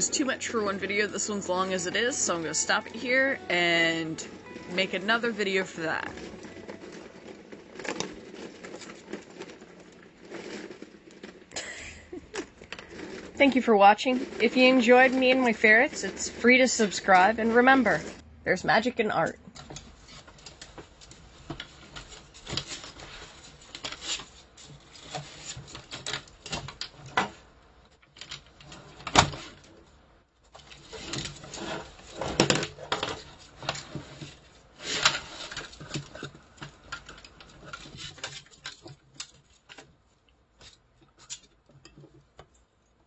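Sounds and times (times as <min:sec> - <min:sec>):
pencils and tin clattering: 0:00.0 - 0:27.4, 0:30.5 - 0:42.6.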